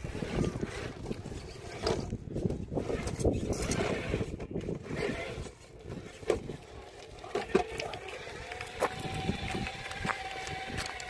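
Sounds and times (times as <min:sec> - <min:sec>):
rc car crunching over rocks: 0:00.0 - 0:11.0.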